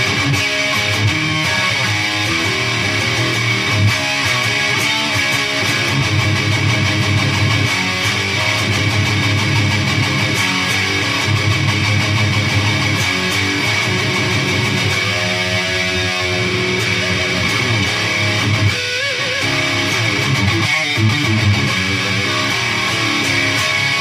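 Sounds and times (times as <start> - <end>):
distorted electric guitar riffing: 0.0 - 24.0.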